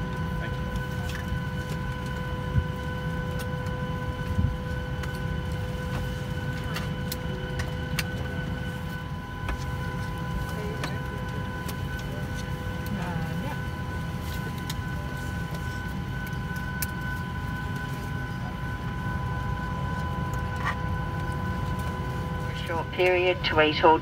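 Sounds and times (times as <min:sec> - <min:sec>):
airplane cabin rumble and whine: 0:00.0 - 0:24.0.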